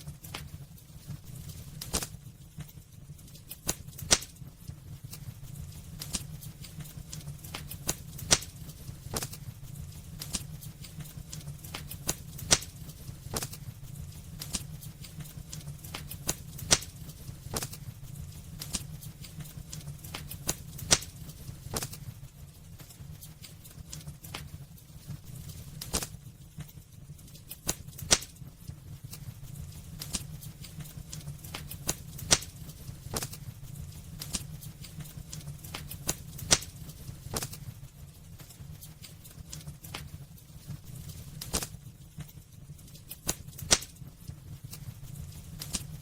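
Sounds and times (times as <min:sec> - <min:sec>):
crackles and pops of burning logs: 0:00.0 - 0:46.0
low rumble of flames: 0:00.0 - 0:46.0.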